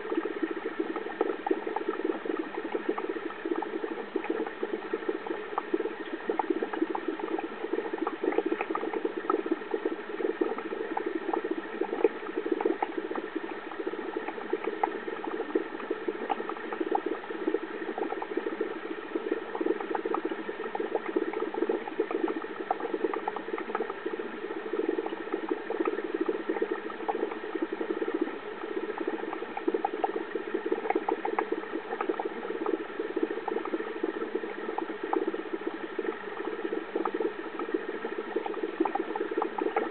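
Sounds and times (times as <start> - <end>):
aquarium equipment hum: 0.0 - 39.9
small bubbling clicks: 0.0 - 39.9.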